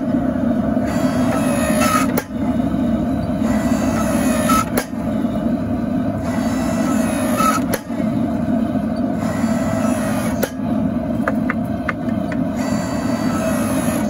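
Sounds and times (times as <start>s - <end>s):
hydraulic press motor droning: 0.0s - 14.0s.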